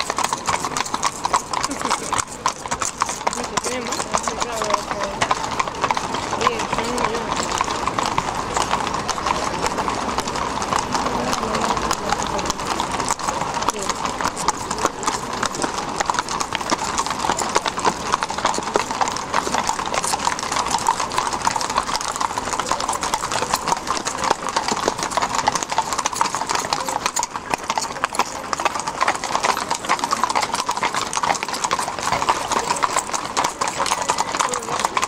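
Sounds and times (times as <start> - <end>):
horse hooves clip-clopping: 0.0 - 35.0.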